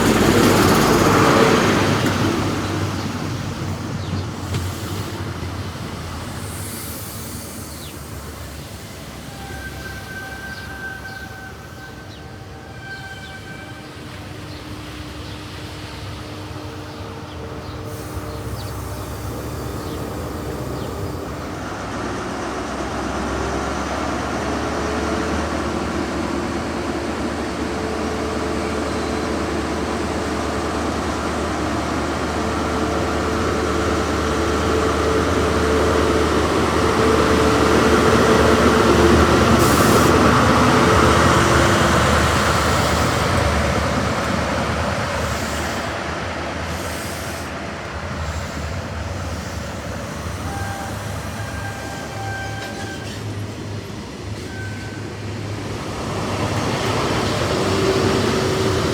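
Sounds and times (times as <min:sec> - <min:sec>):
diesel train rumble and engine hum: 0:00.0 - 0:58.9.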